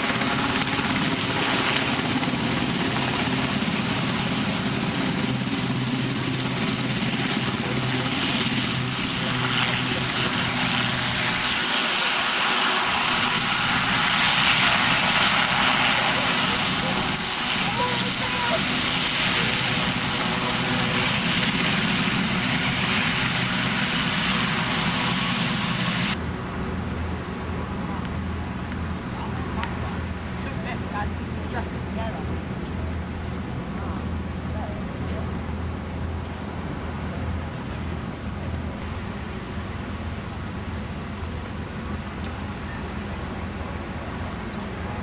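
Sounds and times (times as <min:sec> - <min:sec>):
helicopter engines and rotor: 0:00.0 - 0:45.0.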